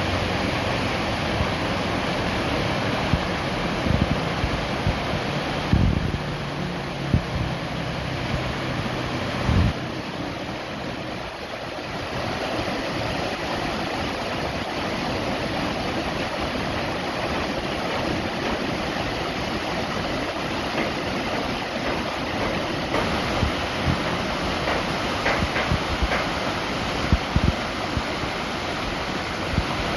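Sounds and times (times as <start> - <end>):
waterfall roaring: 0.0 - 29.9.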